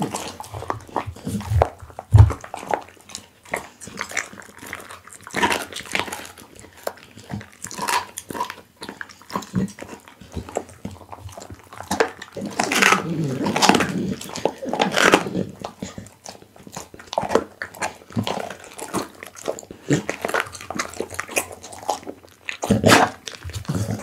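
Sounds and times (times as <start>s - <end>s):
dog chewing raw meat: 0.0s - 24.0s.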